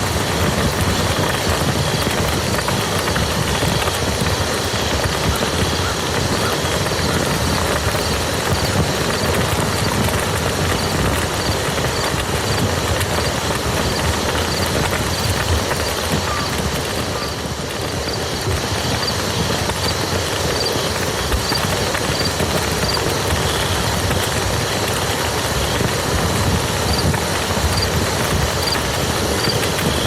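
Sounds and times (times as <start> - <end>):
rain pattering on wet mud: 0.0 - 30.0.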